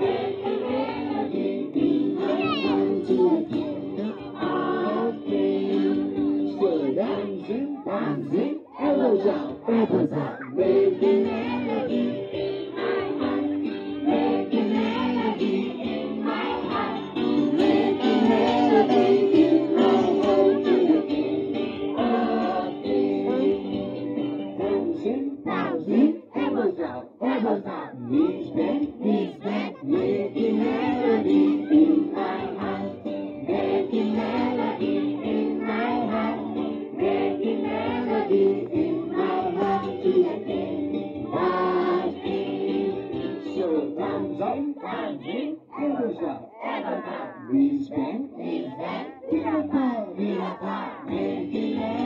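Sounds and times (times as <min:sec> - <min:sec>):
group of voices singing: 0:00.0 - 0:52.0.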